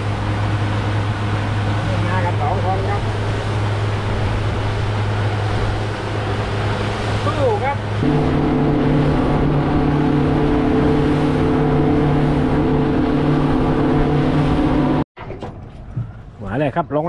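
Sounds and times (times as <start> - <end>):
speedboat engine running: 0.0 - 15.1
wind and water rushing: 0.0 - 15.1.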